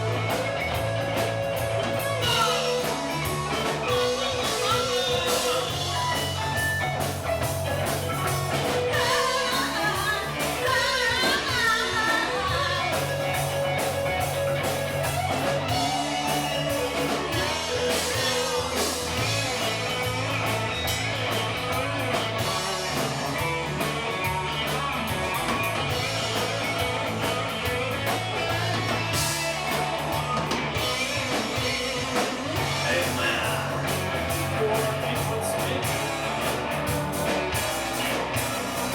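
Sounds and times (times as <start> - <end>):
rock band playing: 0.0 - 38.9
wavering guitar line: 0.0 - 38.9.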